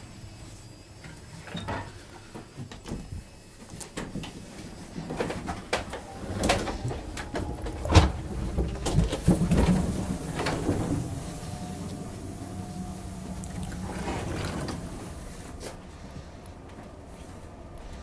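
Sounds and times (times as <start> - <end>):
train coach hum: 0.0 - 18.0.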